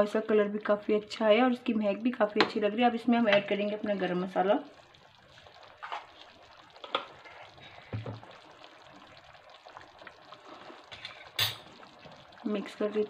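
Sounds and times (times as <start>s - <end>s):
curry bubbling: 0.0s - 13.0s.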